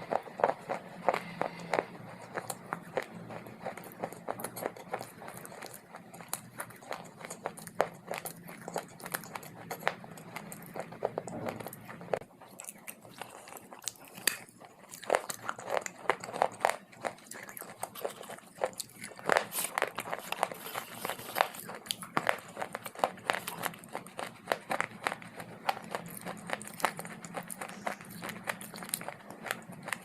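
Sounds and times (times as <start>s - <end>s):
crunching and chewing: 0.0s - 30.0s.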